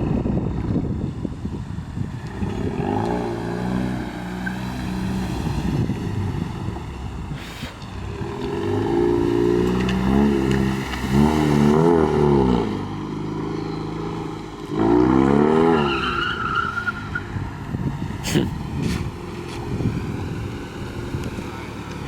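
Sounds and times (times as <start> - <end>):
car engine revving: 2.0 - 22.0.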